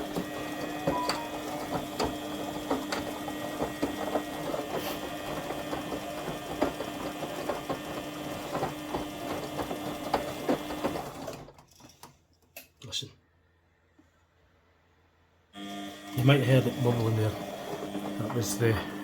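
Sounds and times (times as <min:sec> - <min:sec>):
washing machine hum: 0:00.0 - 0:12.0, 0:15.6 - 0:19.0.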